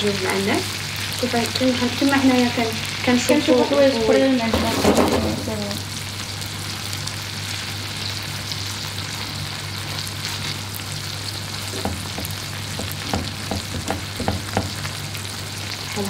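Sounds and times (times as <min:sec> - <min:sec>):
prawns sizzling in a frying pan: 0:00.0 - 0:16.0.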